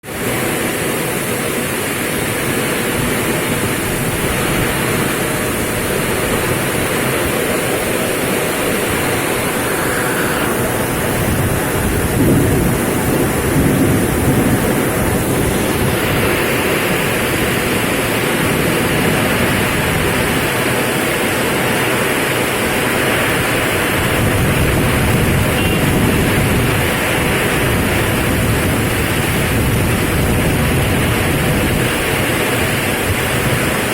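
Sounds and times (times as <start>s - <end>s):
heavy rain: 0.0s - 33.9s
strong wind: 0.0s - 33.9s.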